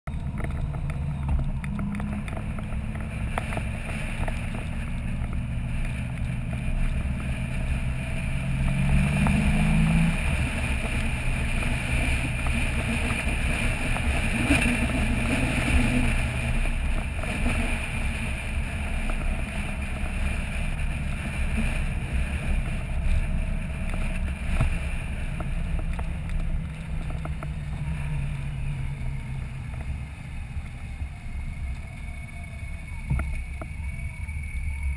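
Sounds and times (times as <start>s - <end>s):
wind and road noise: 0.0s - 34.9s
motorcycle engine running: 0.1s - 33.8s.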